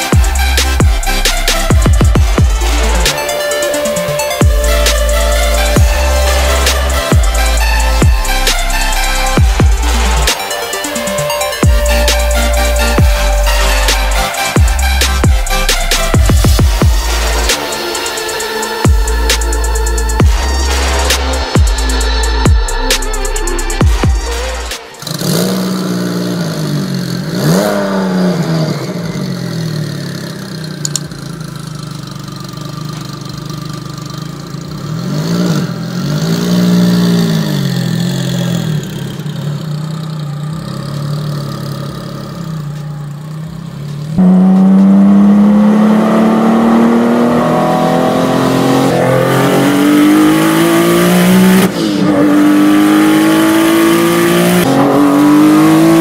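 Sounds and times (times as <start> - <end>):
sports car engine revving and accelerating: 0.0 - 31.5, 32.4 - 56.0
gear upshifts: 0.0 - 56.0.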